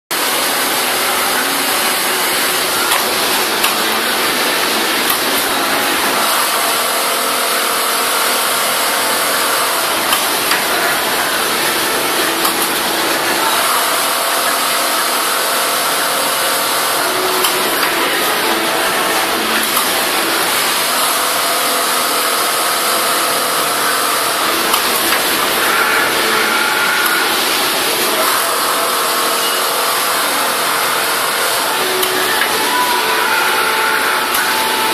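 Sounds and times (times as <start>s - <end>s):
industrial sewing machines whirring: 0.1s - 34.9s.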